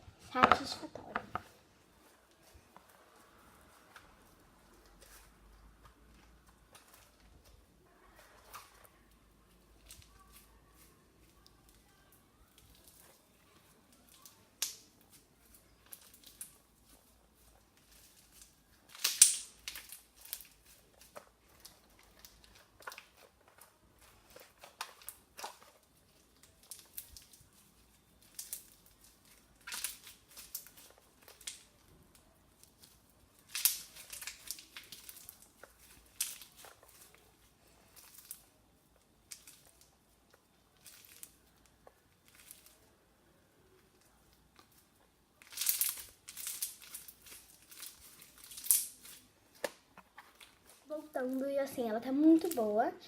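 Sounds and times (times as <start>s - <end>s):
crunchy slime crackling: 0.3s - 51.6s.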